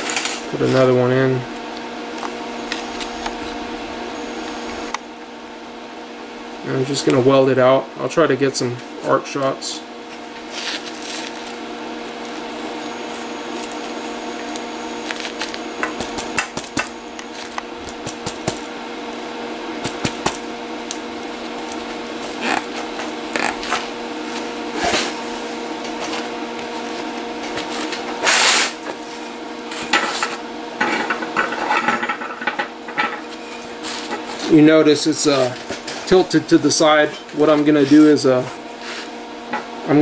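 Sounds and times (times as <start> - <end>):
welding machine electrical hum: 0.0 - 40.0.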